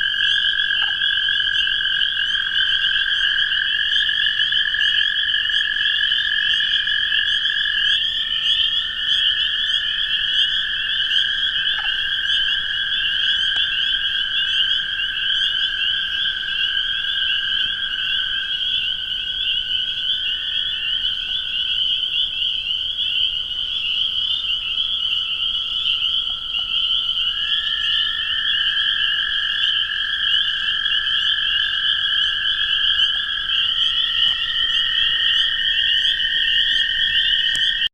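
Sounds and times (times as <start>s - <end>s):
toads trilling: 0.0s - 37.9s.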